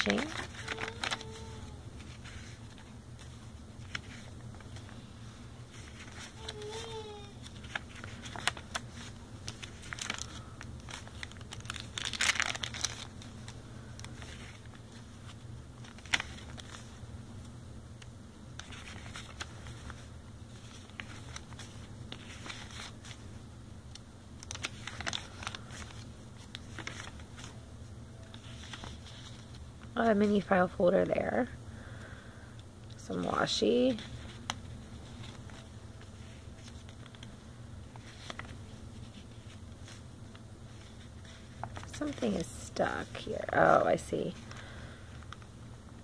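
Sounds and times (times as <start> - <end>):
paper pages rustling: 0.0 - 17.0, 18.5 - 27.6, 28.2 - 30.5, 33.2 - 45.5.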